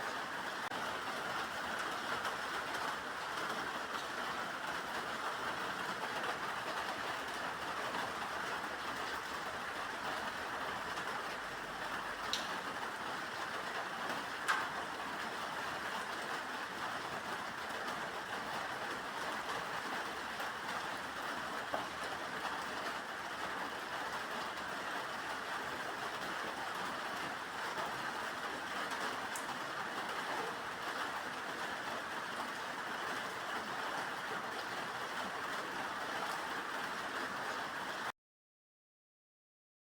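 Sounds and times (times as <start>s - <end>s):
steady rain hiss: 0.0s - 38.1s.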